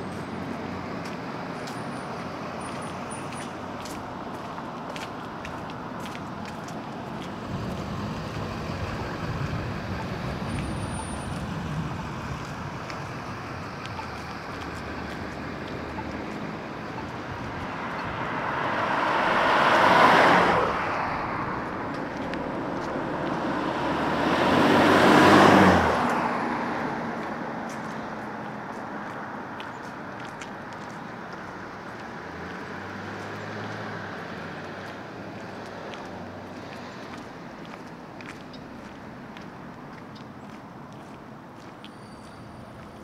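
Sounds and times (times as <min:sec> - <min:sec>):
cars passing close by: 0:00.0 - 0:43.0
road traffic: 0:00.0 - 0:43.0.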